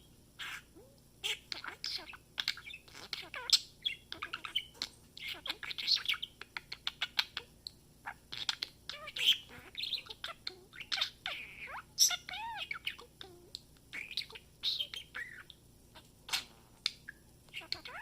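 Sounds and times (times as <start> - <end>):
budgerigar chattering: 0.4 - 7.5, 8.1 - 13.3, 14.0 - 15.5, 16.3 - 18.0.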